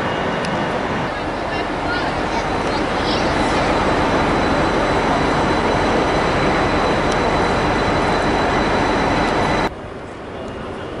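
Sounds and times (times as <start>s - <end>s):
faint high whines: 0.0s - 11.0s
train rumbling and hissing: 0.0s - 11.0s.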